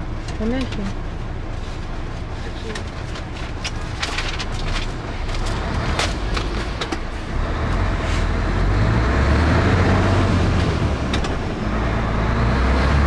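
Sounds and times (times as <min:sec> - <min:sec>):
truck engine rumble from cab: 0:00.0 - 0:13.0.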